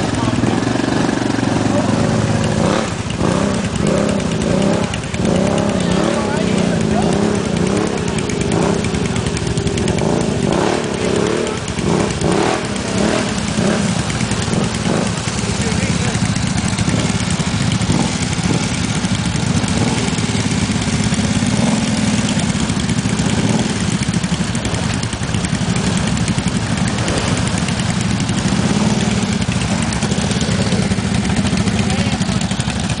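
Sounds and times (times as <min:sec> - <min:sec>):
atv engines idling: 0:00.0 - 0:33.0.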